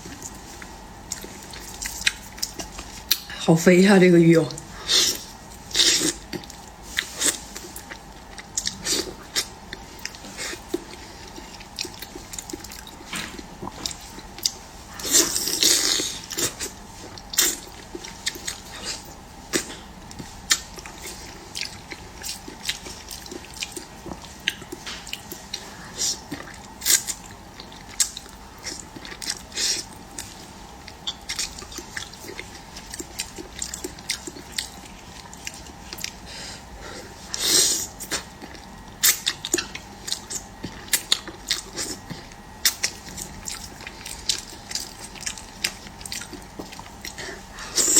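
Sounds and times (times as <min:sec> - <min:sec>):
wet chewing: 0:00.0 - 0:03.3, 0:04.5 - 0:47.9.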